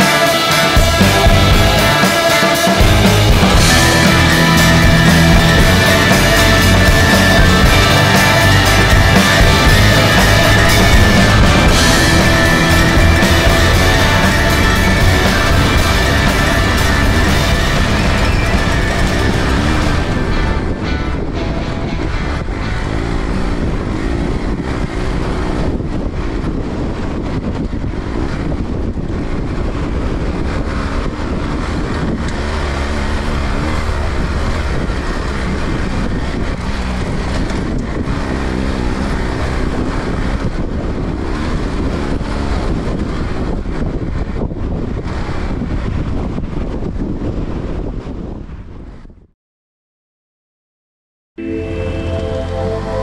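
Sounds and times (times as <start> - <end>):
motorcycle engine revving: 0.0 - 48.4
wind noise on microphone: 0.0 - 49.3.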